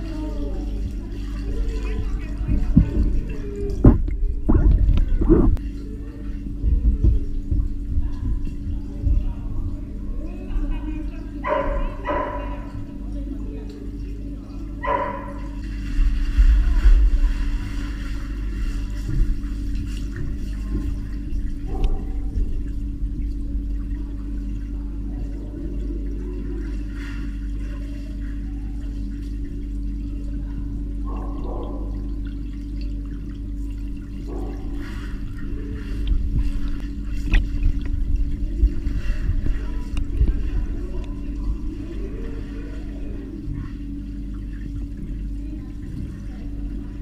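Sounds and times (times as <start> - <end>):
muffled underwater water sloshing: 0.0 - 47.0
steady hum: 0.0 - 47.0
water swishes: 0.0 - 47.0.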